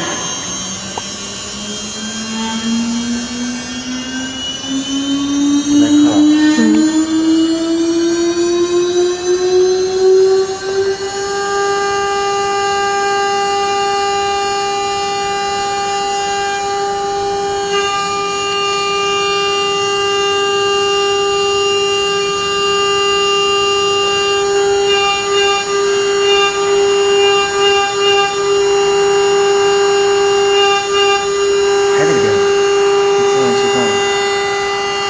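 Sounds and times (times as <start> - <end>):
router spindle high whine: 0.0 - 35.0.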